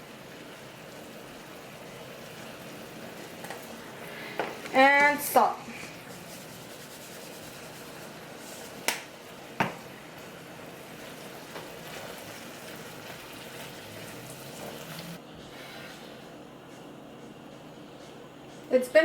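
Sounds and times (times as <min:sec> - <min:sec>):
pot of pasta boiling: 0:00.0 - 0:16.4.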